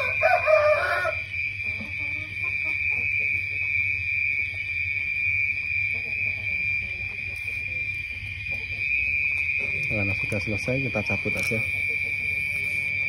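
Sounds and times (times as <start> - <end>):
crickets droning: 0.0 - 13.0
wavering pitched sound: 0.0 - 13.0.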